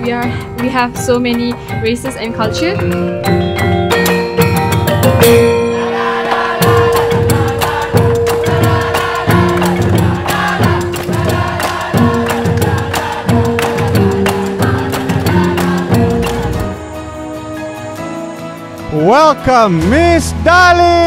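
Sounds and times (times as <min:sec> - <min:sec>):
fast percussion strikes: 0:00.0 - 0:16.9
held steady music notes: 0:00.0 - 0:20.8.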